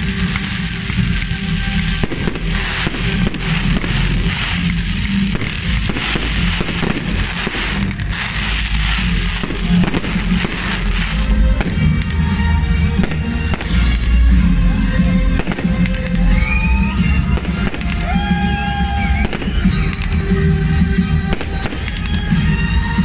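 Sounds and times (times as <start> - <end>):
fireworks bangs: 0.0 - 14.3, 15.1 - 23.0
fireworks crackling: 0.0 - 23.0.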